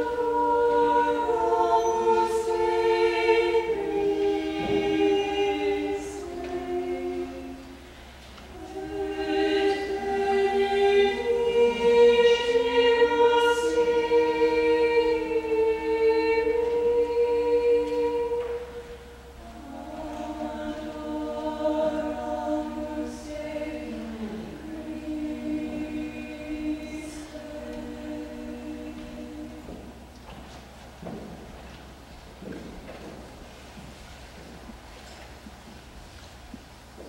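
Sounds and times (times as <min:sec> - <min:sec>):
women's choir singing: 0:00.0 - 0:30.2.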